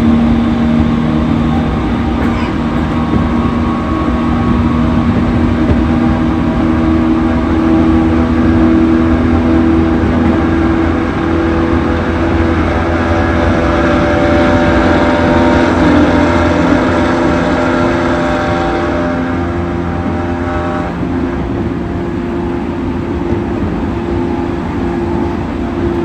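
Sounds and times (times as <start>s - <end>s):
multi-tone hum: 0.0s - 26.0s
train car rumble: 0.0s - 26.0s.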